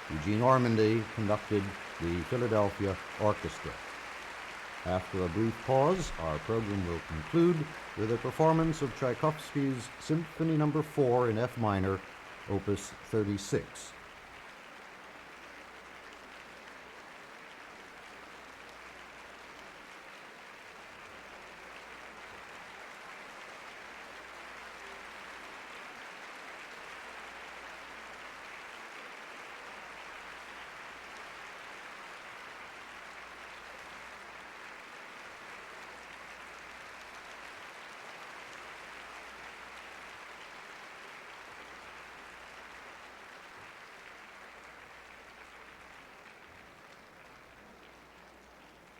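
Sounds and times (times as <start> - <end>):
audience applauding: 0.0 - 48.9.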